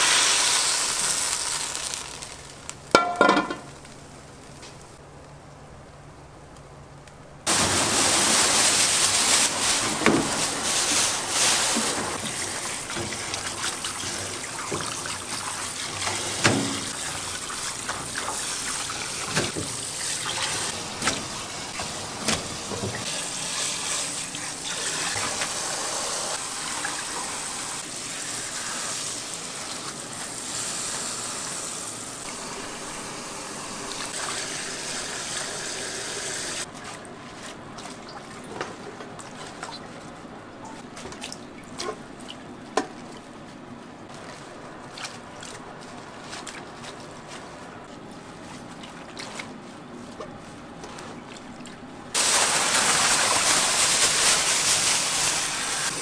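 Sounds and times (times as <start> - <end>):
water running and splashing: 7.5 - 56.0.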